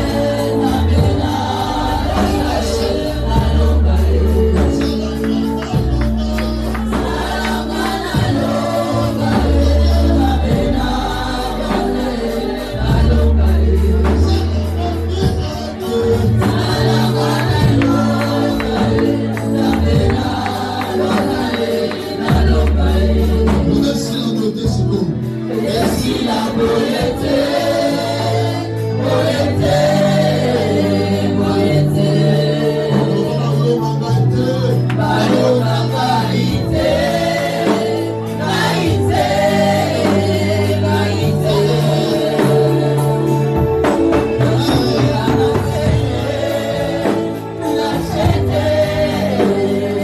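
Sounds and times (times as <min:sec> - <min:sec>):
choir singing: 0:00.0 - 0:24.1, 0:25.0 - 0:50.0
band playing: 0:00.0 - 0:50.0
deep bass line: 0:00.0 - 0:50.0.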